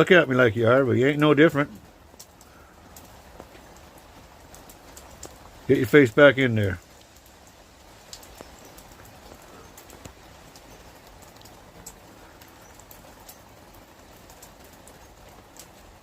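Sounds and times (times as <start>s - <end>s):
quiet outdoor ambience: 0.0s - 16.0s.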